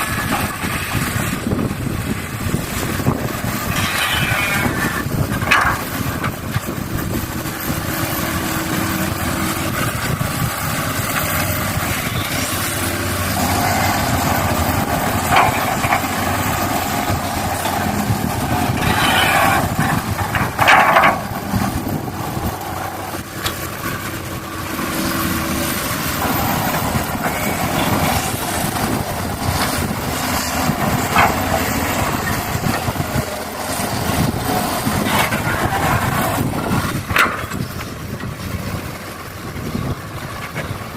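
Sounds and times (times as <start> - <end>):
hydraulic pump whining: 0.0 - 40.8
steady mechanical hum: 0.0 - 40.9.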